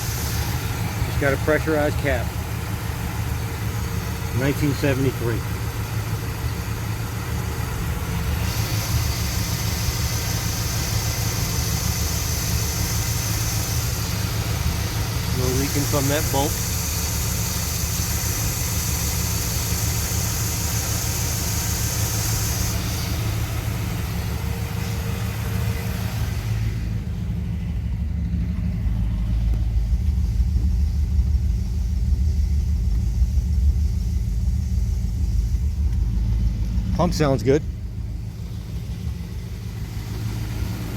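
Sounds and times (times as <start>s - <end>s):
pickup engine idling: 0.0s - 40.9s.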